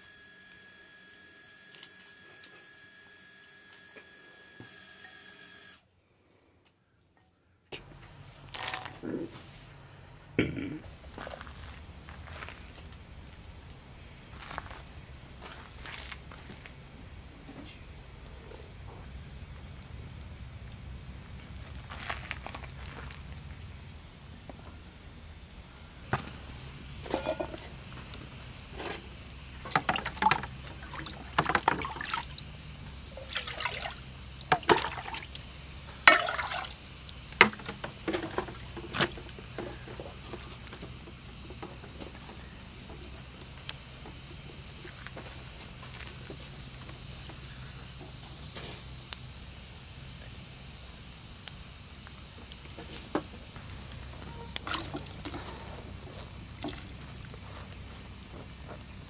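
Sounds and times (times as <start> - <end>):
wood fire crackling: 10.8 - 59.0.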